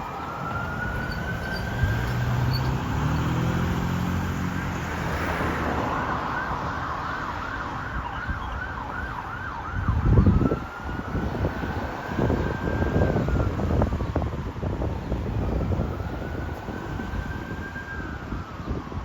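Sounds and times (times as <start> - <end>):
fire engine siren wailing and yelping: 0.0 - 3.6, 4.5 - 19.0.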